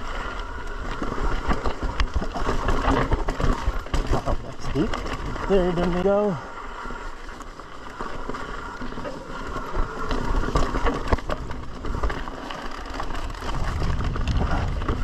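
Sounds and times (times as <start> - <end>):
tyres crunching over gravel: 0.0 - 15.0
bike knocks and rattles: 0.9 - 6.3, 7.9 - 15.0.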